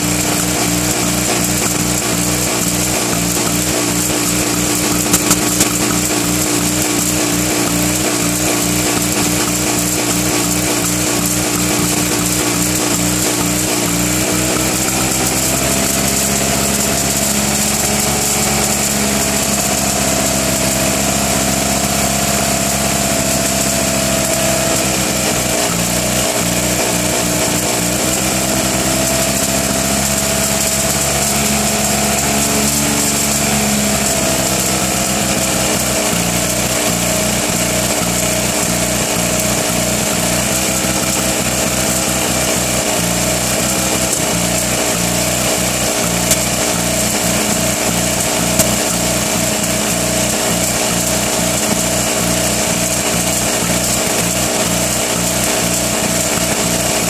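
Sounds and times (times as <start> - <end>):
rough two-cylinder engine running: 0.0 - 57.0.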